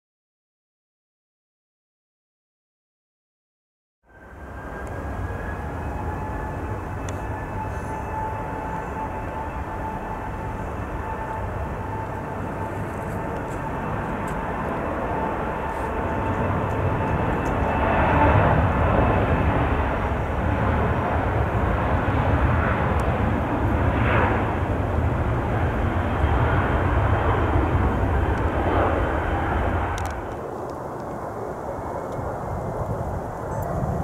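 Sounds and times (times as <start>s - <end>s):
jet engines rumbling with fan whine: 4.1s - 34.0s.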